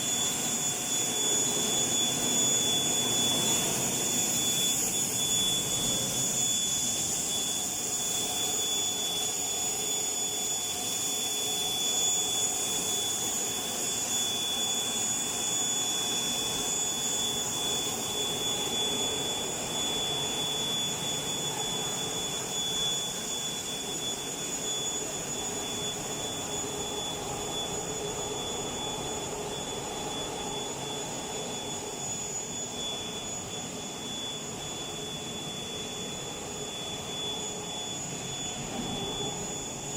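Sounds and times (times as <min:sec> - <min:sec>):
high-pitched machine whine: 0:00.0 - 0:39.9
machine hum and hiss: 0:00.0 - 0:39.9.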